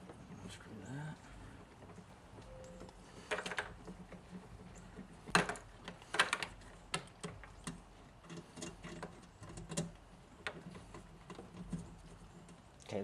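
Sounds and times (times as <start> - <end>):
small clicks and taps of metal parts: 1.6 - 13.0.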